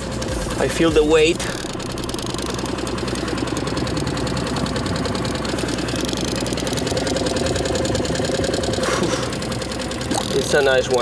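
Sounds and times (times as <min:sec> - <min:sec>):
boat motor running: 0:00.0 - 0:11.0.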